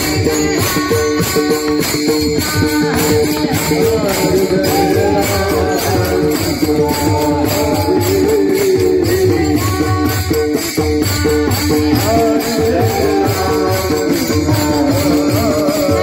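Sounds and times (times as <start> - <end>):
drum beating: 0.0 - 16.0
hand cymbals jingling: 0.0 - 16.0
person singing: 0.0 - 16.0.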